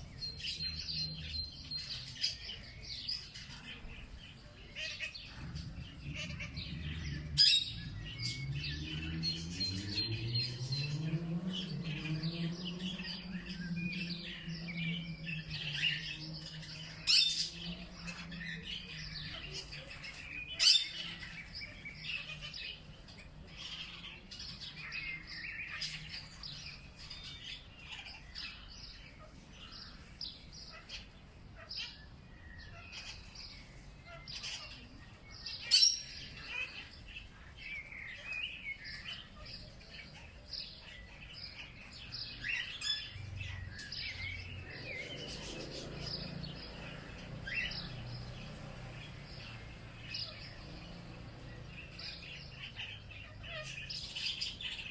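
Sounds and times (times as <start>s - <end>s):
birds chirping and twittering: 0.0s - 54.9s.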